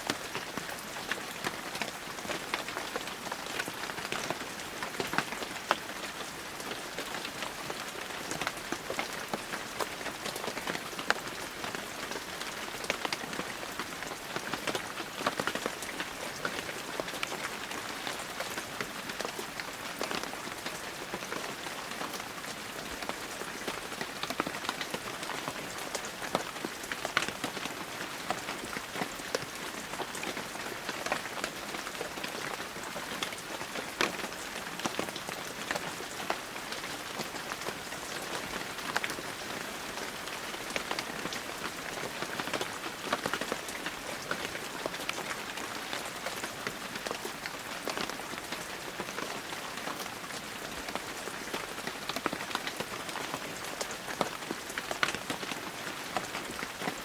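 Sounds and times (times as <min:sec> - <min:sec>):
raindrops pattering on surfaces: 0:00.0 - 0:57.0.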